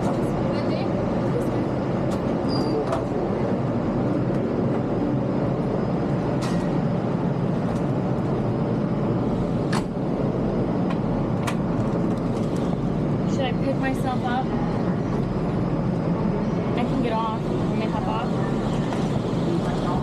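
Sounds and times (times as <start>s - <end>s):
low rumble of train: 0.0s - 20.0s.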